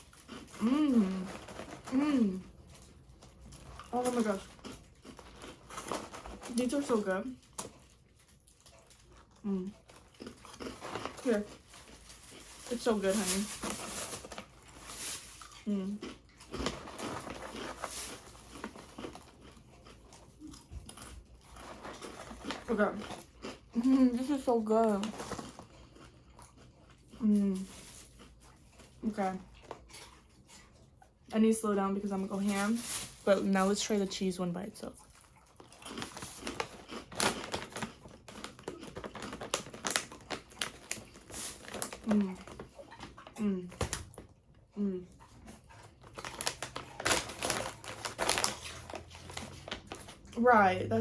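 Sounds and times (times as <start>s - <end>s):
chewing crunchy rice crackers: 0.0s - 51.0s.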